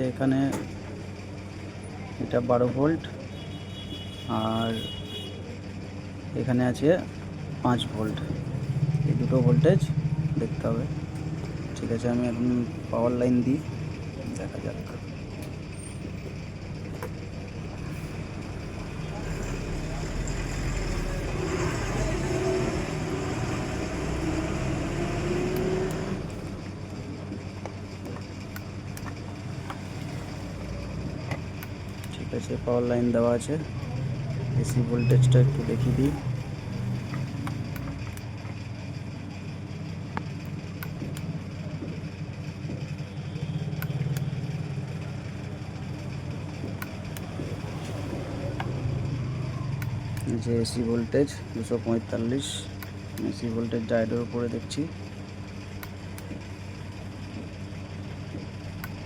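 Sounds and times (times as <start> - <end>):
road traffic: 0.0 - 59.0
vehicle engine humming: 0.0 - 59.0
low background drone: 5.6 - 59.0.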